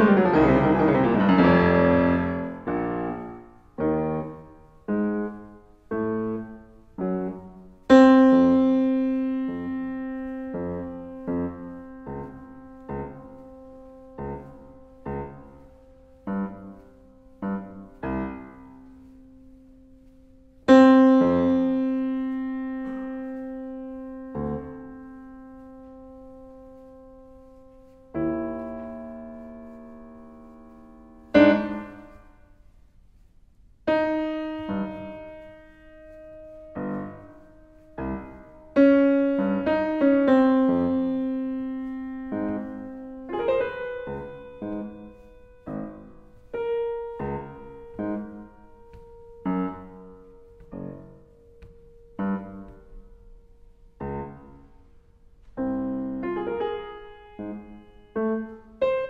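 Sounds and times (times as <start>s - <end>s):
grand piano playing slowly: 0.0s - 59.0s.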